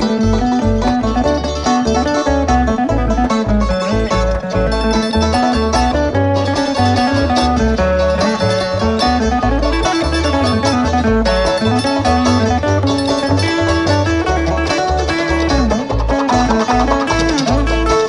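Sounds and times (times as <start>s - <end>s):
bass line: 0.0s - 18.0s
fast picked banjo: 0.0s - 18.0s
guitar: 0.0s - 18.0s.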